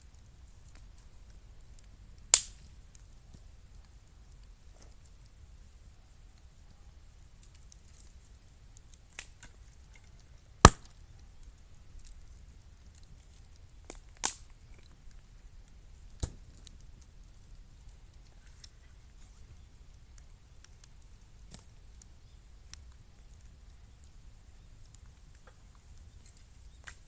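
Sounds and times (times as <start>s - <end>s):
bamboo popping in a fire: 0.0s - 27.0s
faint fire crackling: 0.0s - 27.0s.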